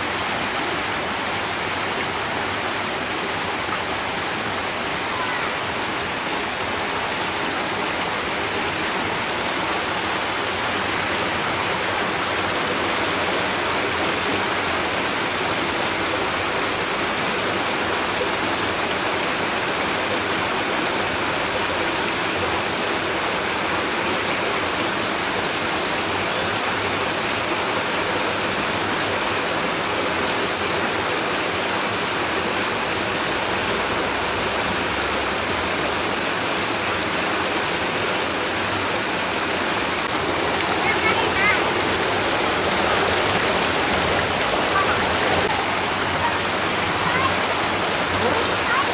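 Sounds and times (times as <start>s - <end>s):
stream water rushing: 0.0s - 48.9s.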